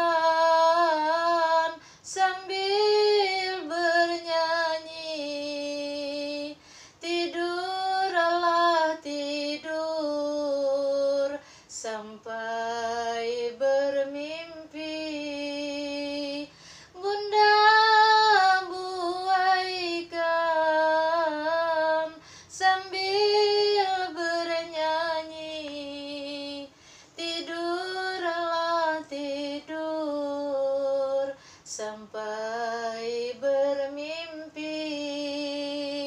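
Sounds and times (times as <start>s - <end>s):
woman singing a lullaby: 0.0s - 36.0s.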